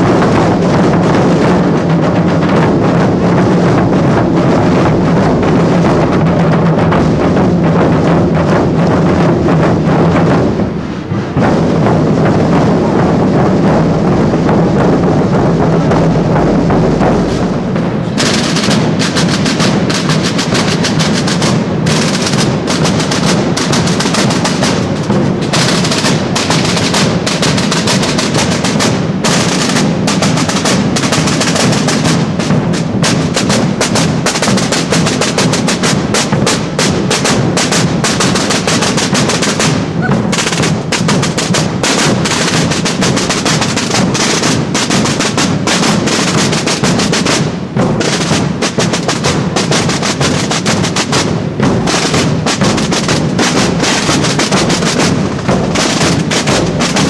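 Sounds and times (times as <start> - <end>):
bass drum beats: 0.0 - 57.0
snare drums playing: 0.0 - 57.0.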